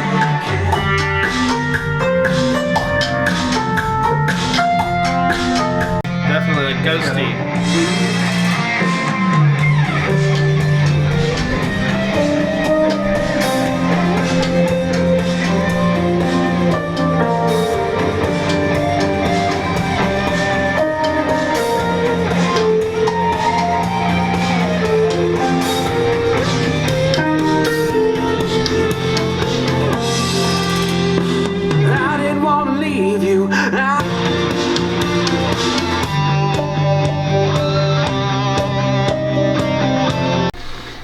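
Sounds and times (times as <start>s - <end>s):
rock music with electric guitar: 0.0s - 40.9s.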